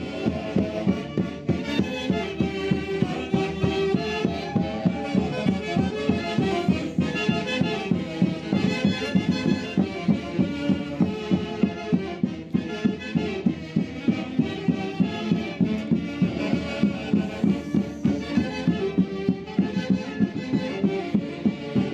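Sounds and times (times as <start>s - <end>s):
festive orchestra music: 0.0s - 21.8s
steady beat: 0.0s - 21.9s
violin: 0.0s - 21.9s
wind instruments: 0.0s - 21.9s.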